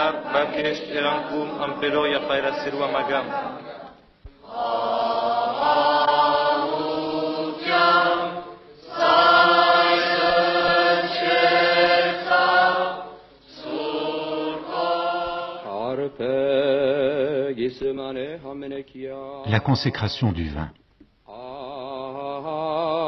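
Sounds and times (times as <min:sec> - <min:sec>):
choir singing chant in unison: 0:00.0 - 0:18.4, 0:21.3 - 0:23.0.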